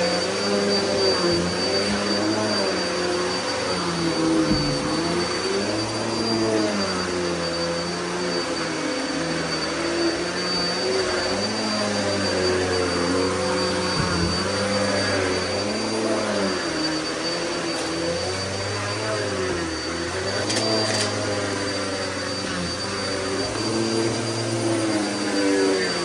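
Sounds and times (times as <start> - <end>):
vacuum cleaner running on carpet: 0.0 - 26.0.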